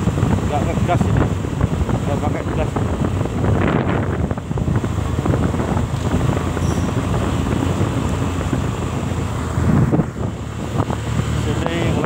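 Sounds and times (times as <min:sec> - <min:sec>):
motorcycle engine and road rumble: 0:00.0 - 0:12.0
wind noise on microphone: 0:00.0 - 0:12.0.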